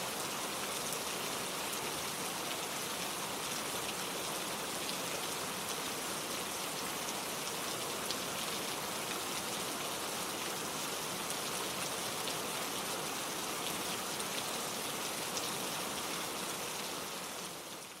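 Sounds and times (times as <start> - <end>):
gentle rain falling: 0.0 - 18.0.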